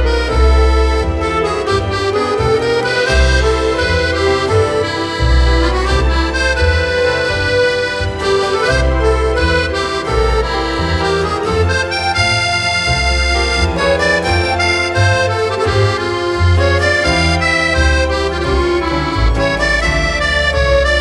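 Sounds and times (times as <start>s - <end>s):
melody over bass line: 0.0s - 21.0s.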